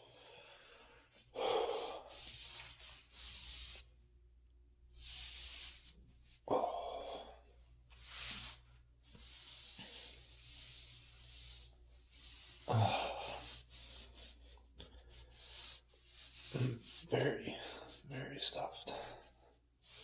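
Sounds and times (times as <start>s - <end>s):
man breathing heavily: 0.0s - 3.8s, 6.5s - 8.6s, 9.2s - 18.1s, 18.8s - 20.0s.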